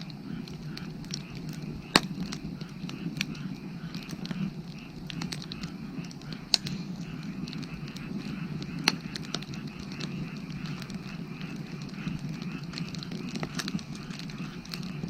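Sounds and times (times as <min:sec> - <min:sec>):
frogs calling: 0:00.0 - 0:15.0
wood fire crackling: 0:00.0 - 0:15.0.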